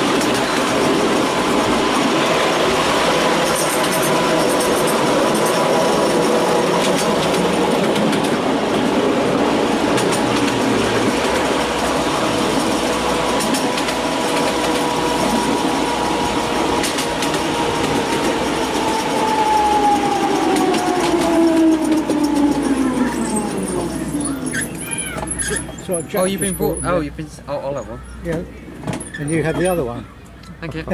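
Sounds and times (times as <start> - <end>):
miniature train running with whine: 0.0 - 30.9.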